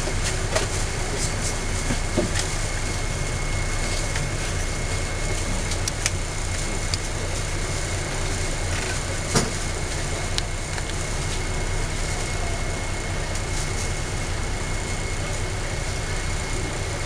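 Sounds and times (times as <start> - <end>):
faint high whine: 0.0 - 17.0
traffic rumble: 0.0 - 17.0.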